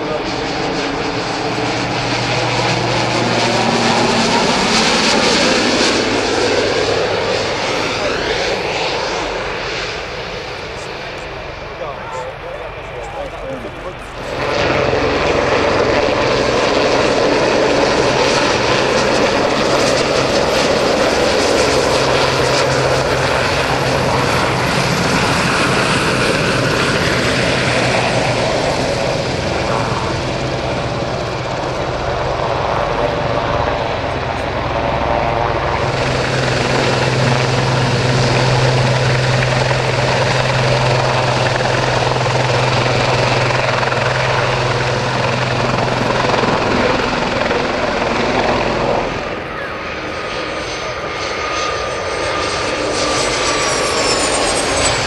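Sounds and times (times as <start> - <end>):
helicopter flying past: 0.0 - 55.0
helicopter hovering: 0.0 - 55.0.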